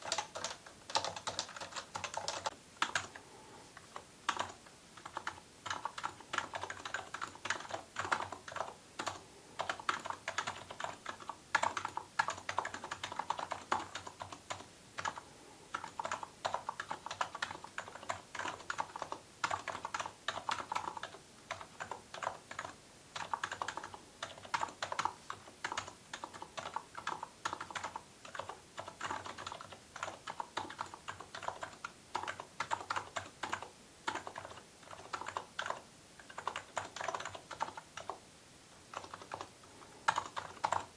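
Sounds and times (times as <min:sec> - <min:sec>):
keyboard typing: 0:00.0 - 0:03.2, 0:03.8 - 0:38.2, 0:38.9 - 0:40.9.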